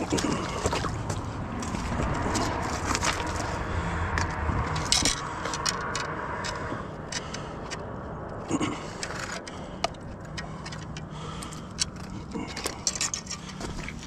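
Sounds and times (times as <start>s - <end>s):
light clicks and rattles: 0.0s - 14.0s.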